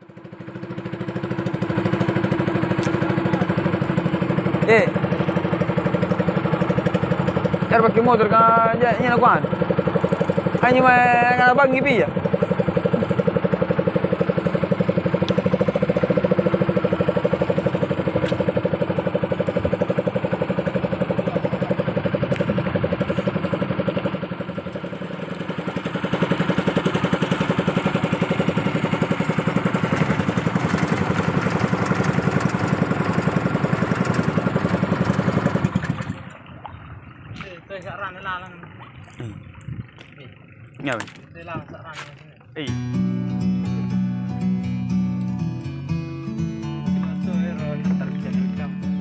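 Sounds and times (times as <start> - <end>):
boat engine chugging: 0.0 - 49.0.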